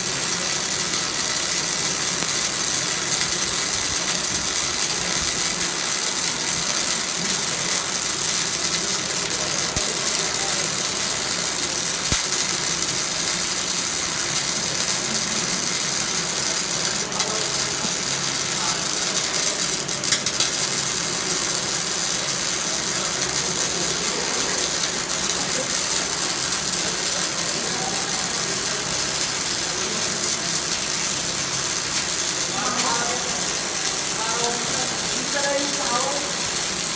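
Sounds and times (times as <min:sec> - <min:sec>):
sharp welding pops: 0:00.0 - 0:36.9
welding arc: 0:00.0 - 0:36.9.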